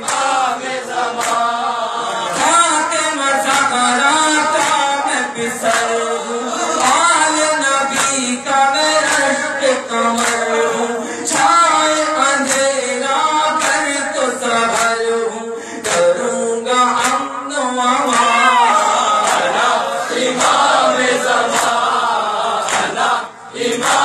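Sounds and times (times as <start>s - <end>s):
men chanting into microphone: 0.0s - 24.0s.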